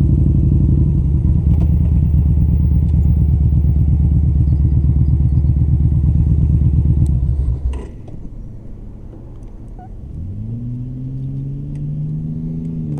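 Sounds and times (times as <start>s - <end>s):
motorcycle engine running: 0.0s - 12.9s
vehicle engine revving: 0.7s - 12.9s.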